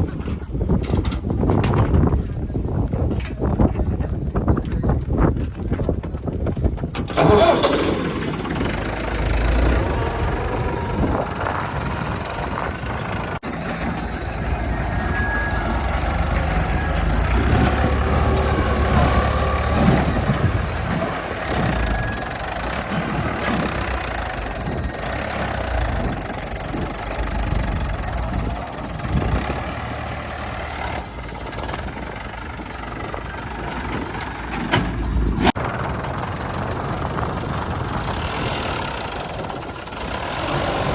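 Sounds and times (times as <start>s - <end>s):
heavy machinery engine rumbling: 0.0s - 40.9s.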